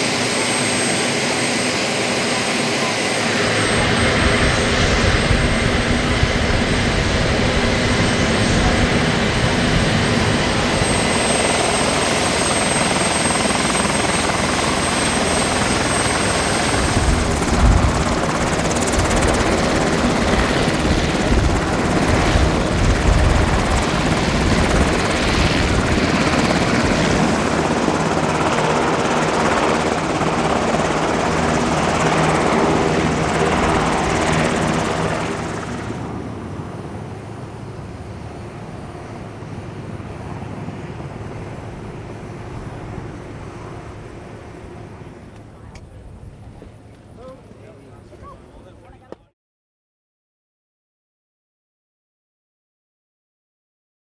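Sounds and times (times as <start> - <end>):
helicopter engine whine and rush: 0.0 - 46.9.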